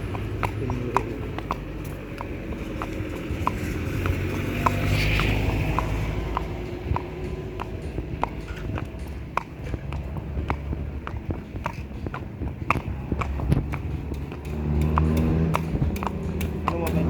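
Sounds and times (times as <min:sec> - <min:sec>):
horse hooves clip-clopping: 0:00.0 - 0:17.0.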